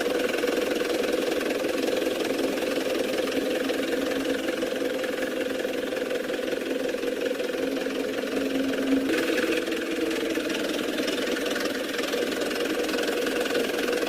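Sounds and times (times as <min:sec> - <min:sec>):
toy truck mechanical hum: 0:00.0 - 0:14.0.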